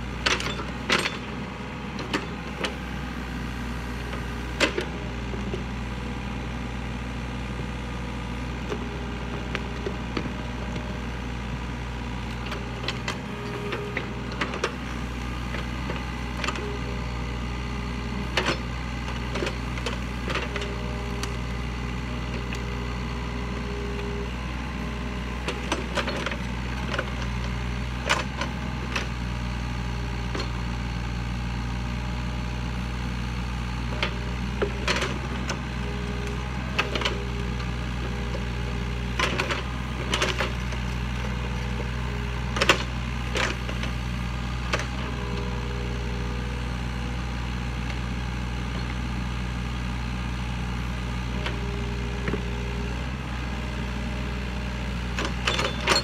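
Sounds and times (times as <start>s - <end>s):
engine whine: 0.0s - 30.7s, 33.7s - 49.0s, 50.9s - 56.0s
excavator diesel engine running: 0.0s - 56.0s.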